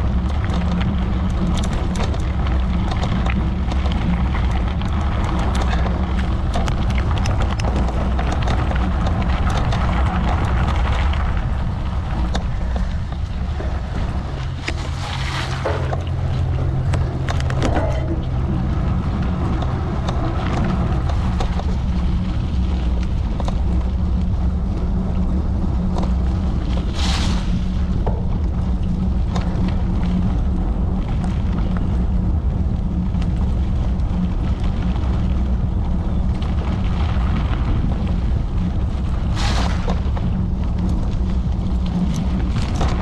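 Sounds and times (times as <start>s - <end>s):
wind rumbling on microphone: 0.0s - 43.0s.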